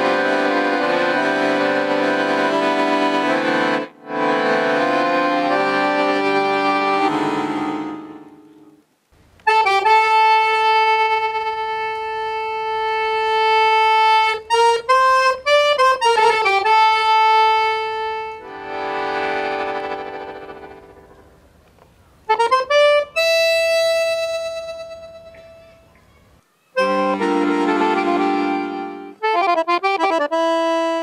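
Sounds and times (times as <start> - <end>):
solo accordion playing: 0.0 - 8.8, 9.4 - 21.2, 22.2 - 25.8, 26.8 - 31.0.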